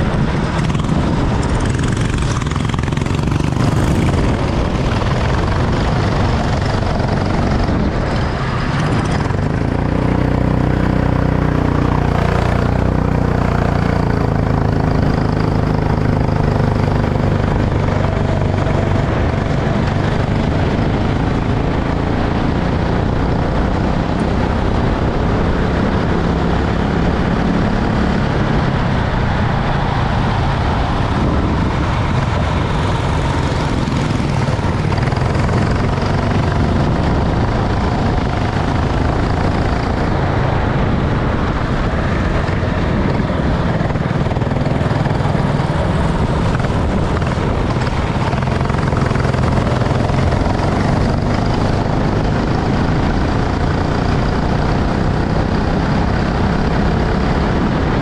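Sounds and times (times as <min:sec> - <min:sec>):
kart engines droning: 0:00.0 - 0:58.0.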